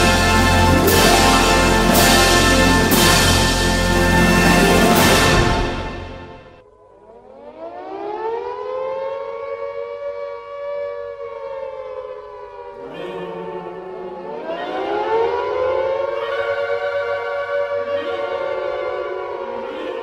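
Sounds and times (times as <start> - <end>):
air-raid siren wailing: 0.0 - 20.0.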